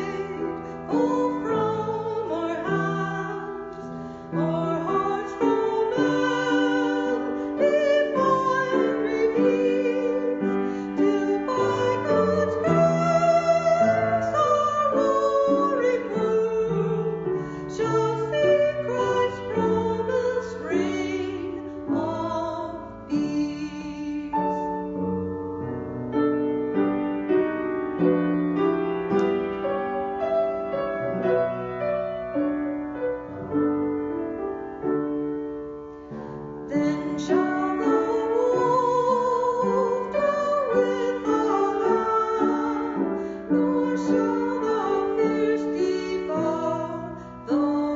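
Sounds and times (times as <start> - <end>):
slow classical piano music: 0.0 - 47.9.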